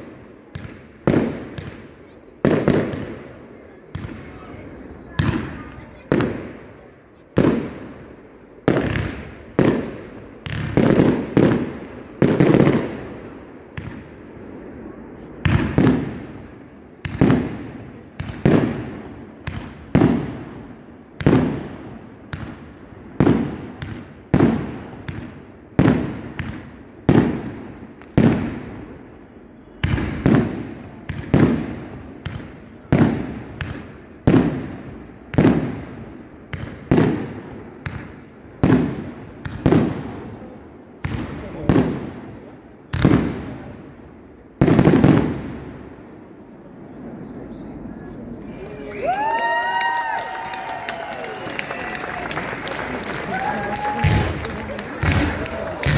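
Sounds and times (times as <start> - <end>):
fireworks loud bangs echoing: 0.0 - 45.9, 53.3 - 55.9.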